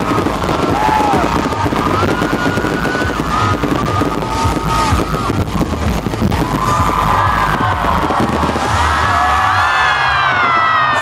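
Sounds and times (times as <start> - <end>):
fireworks crackling and popping: 0.0 - 11.0
loud music: 0.0 - 11.0.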